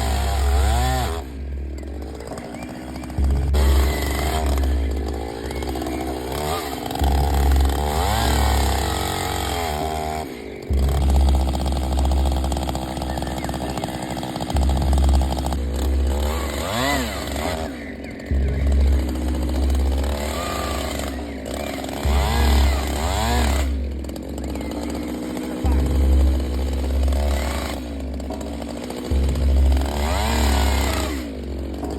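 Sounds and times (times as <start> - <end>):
chainsaw revving: 0.0 - 31.9.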